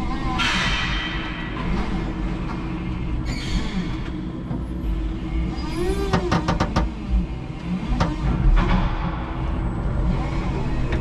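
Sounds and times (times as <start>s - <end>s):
electric forklift motor humming: 1.3s - 11.0s.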